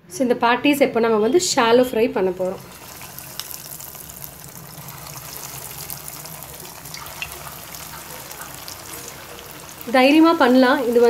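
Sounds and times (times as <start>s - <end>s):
cutlets sizzling in oil: 1.8s - 11.0s.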